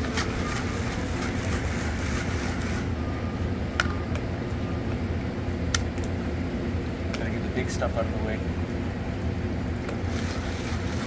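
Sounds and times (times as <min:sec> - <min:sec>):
vehicle running hum: 0:00.0 - 0:11.0.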